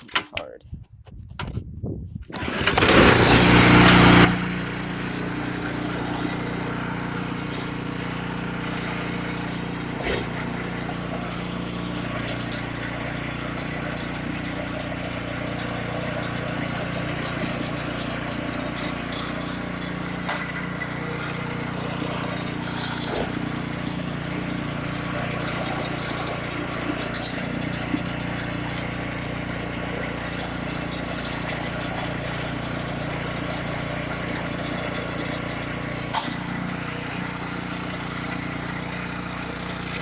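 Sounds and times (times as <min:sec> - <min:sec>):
snowblower engine running: 0:02.3 - 0:40.0.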